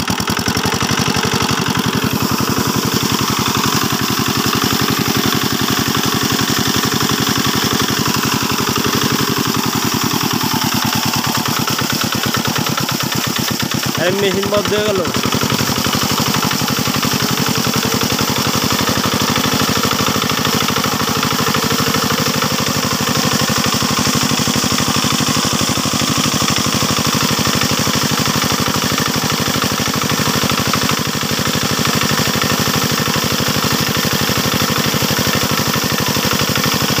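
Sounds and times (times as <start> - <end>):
diesel engine running: 0.0 - 37.0
water gushing from pipe: 0.0 - 37.0.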